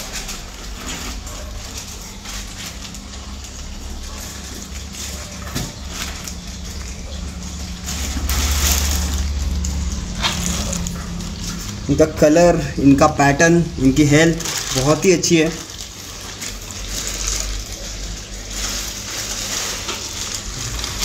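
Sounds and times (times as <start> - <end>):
aquarium water bubbling and splashing: 0.0 - 21.0
tank pumps humming: 0.0 - 21.0.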